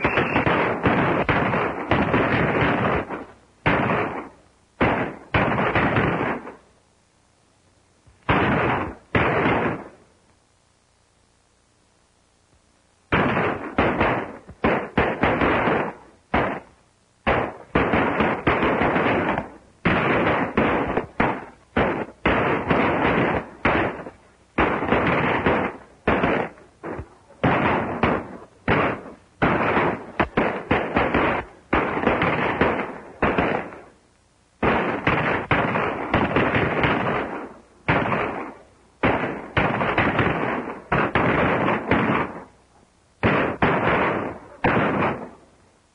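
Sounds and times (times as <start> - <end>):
echoing gunshots: 0.0 - 6.7, 8.2 - 10.1, 13.1 - 34.0, 34.6 - 42.6, 43.2 - 45.5.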